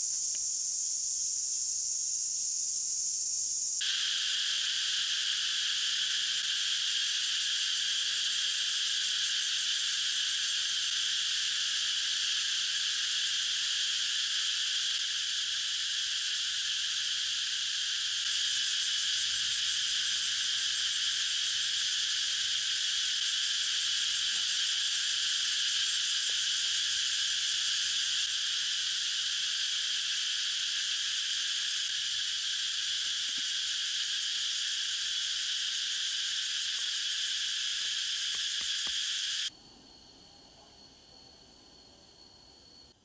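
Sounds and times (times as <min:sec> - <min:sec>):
insects buzzing and shrilling: 0:00.0 - 0:43.0.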